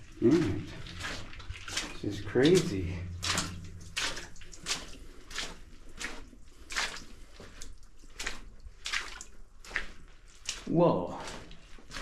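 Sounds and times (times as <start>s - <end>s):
footsteps splashing in water: 0.0s - 12.0s.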